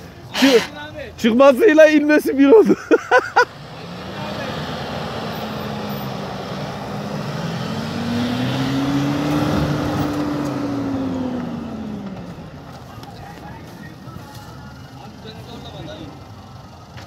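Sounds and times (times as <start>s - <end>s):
tyres churning through snow: 2.5s - 16.3s
pickup engine pulling under load: 2.8s - 17.0s.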